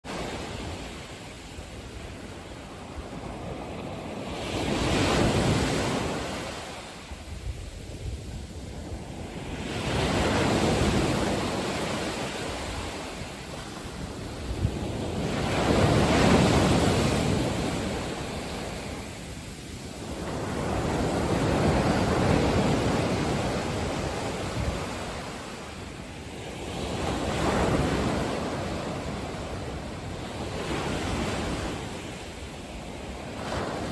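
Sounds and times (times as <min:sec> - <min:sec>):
ocean waves washing in: 0:00.1 - 0:33.9.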